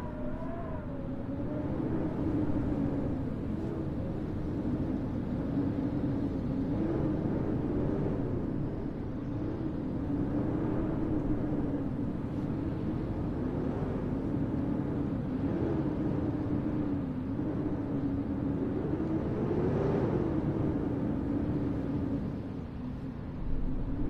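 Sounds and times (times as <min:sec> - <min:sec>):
wavering humming tone: 0:00.0 - 0:24.0
wind: 0:00.0 - 0:24.0.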